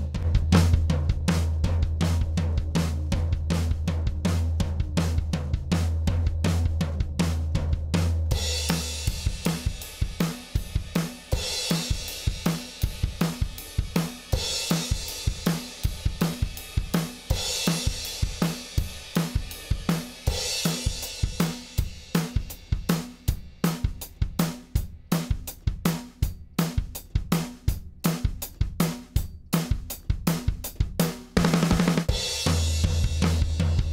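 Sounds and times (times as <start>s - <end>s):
drum kit groove: 0.0s - 33.9s.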